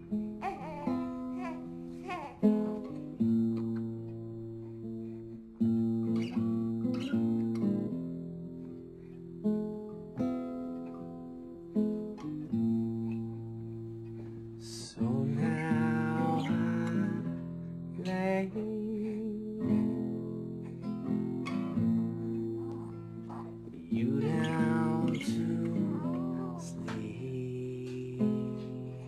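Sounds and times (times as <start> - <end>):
fingerpicked classical guitar: 0.0 - 29.0.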